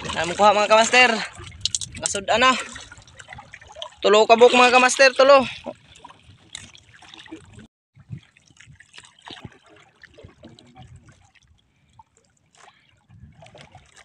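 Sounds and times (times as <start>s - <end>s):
water trickling and dripping: 0.0s - 14.0s.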